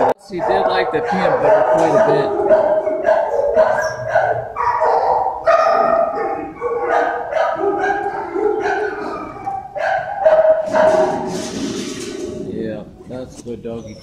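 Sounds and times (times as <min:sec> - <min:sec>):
dogs barking and howling: 0:00.0 - 0:12.5.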